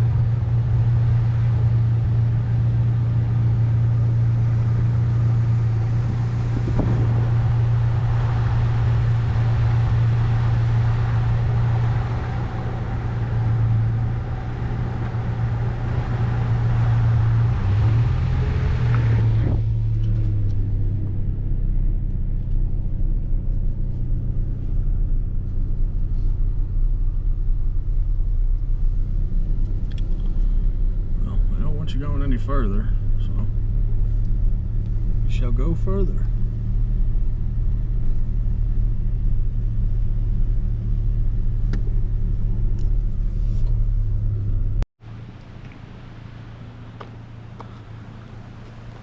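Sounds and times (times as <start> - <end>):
road and wind noise: 0.0 - 49.0
vehicle engine low note: 0.0 - 49.0.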